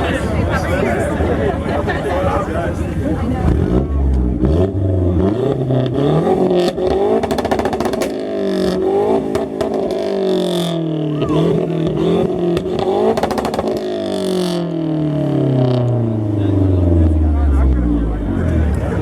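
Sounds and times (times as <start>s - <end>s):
rapid exhaust popping: 2.2s - 19.0s
car engine revving hard: 3.0s - 19.0s.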